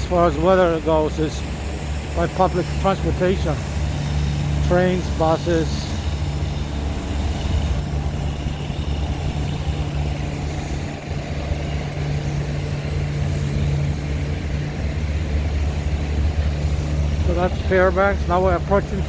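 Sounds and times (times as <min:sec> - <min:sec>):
traffic rumble: 0:00.0 - 0:19.0
vehicle engine running: 0:00.0 - 0:19.0.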